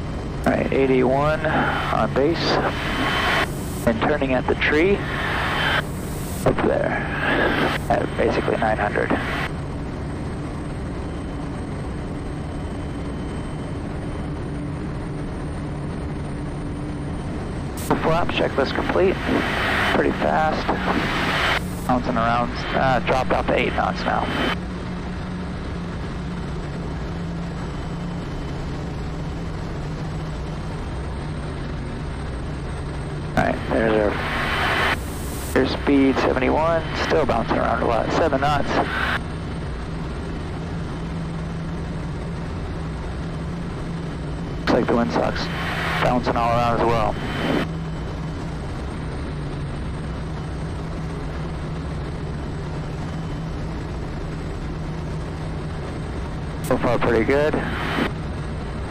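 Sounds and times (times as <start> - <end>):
constant low hum: 0.0 - 58.9
turboprop engine droning: 0.0 - 58.9.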